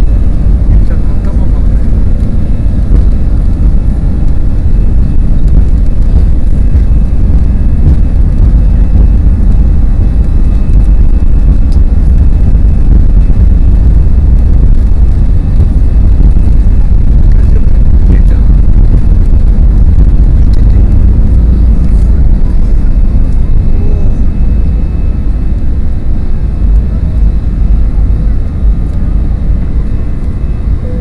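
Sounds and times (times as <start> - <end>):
jet engines rumbling at takeoff: 0.0 - 31.0.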